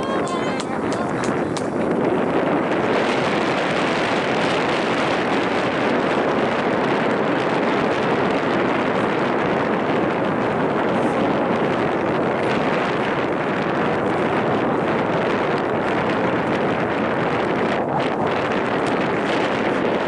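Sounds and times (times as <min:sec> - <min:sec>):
wind across microphone: 0:00.0 - 0:20.0.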